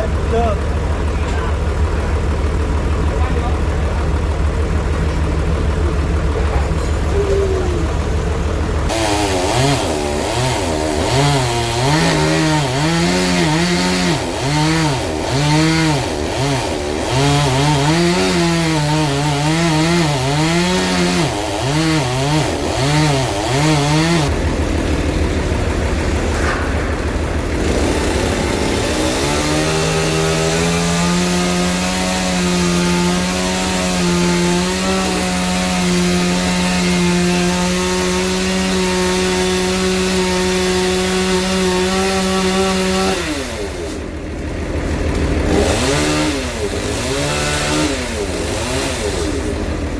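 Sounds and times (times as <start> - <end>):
chainsaw cutting log: 0.0 - 49.9.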